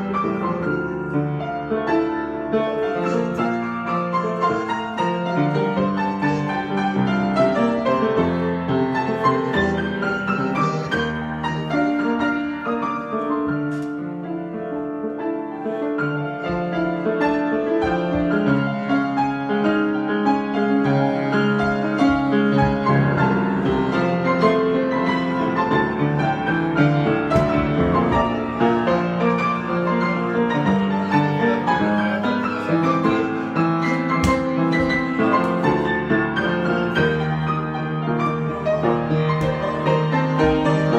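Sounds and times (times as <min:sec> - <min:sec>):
solo piano improvisation: 0:00.0 - 0:40.9.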